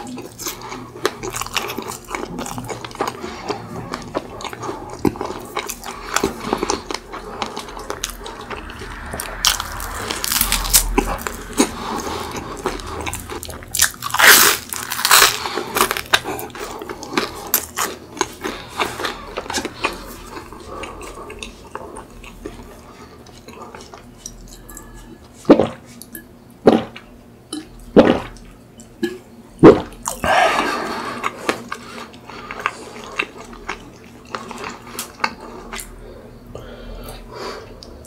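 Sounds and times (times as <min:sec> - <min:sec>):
crisp chewing crunches: 0:00.0 - 0:24.8, 0:29.8 - 0:36.0.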